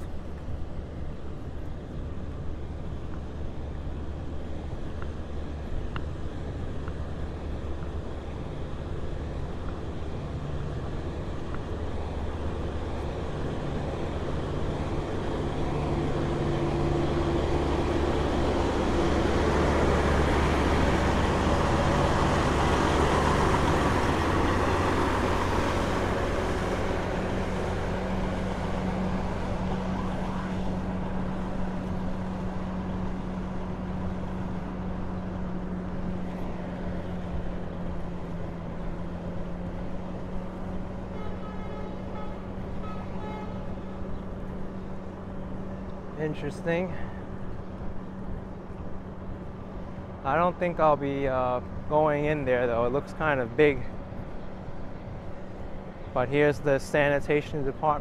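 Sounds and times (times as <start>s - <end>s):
low engine hum: 0.0s - 58.0s
vehicle passing: 9.3s - 58.0s.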